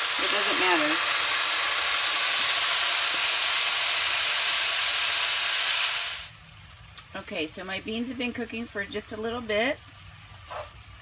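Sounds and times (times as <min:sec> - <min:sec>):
beans sizzling in hot pan: 0:00.0 - 0:11.0.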